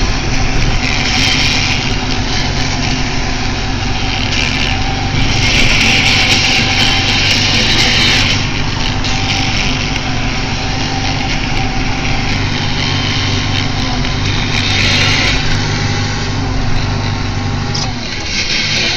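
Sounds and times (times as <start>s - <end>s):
hissing rush: 0.0s - 18.9s
tractor diesel engine running: 0.0s - 18.9s.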